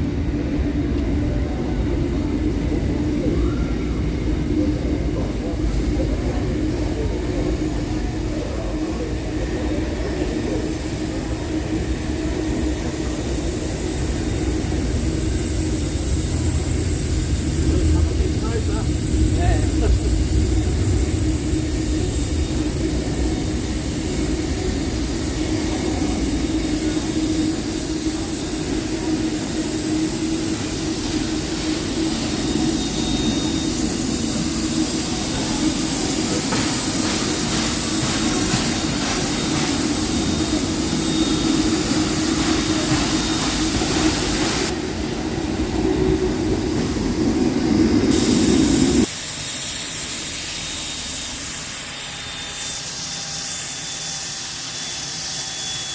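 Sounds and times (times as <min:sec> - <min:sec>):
steam hissing: 0:00.0 - 0:55.9.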